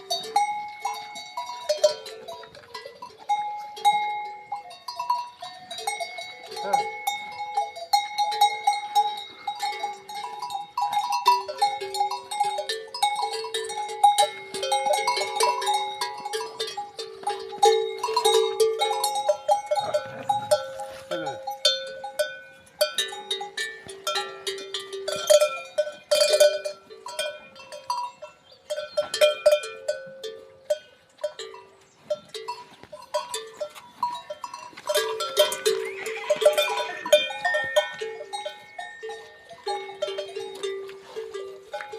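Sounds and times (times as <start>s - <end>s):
livestock bells clanking: 0.0s - 41.9s.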